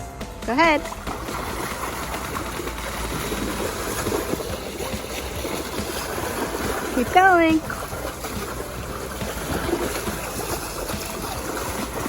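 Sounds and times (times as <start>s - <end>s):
water sloshing in a pool: 0.3s - 12.0s.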